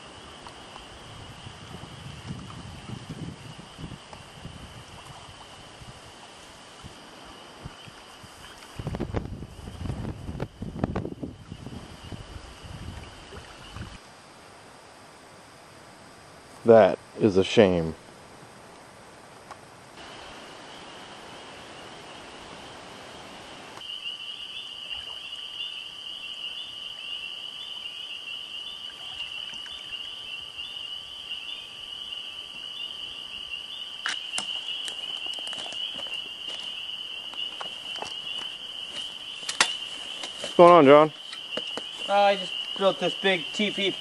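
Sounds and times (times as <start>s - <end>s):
crickets trilling: 0.0s - 44.0s
steady hiss: 0.0s - 44.0s.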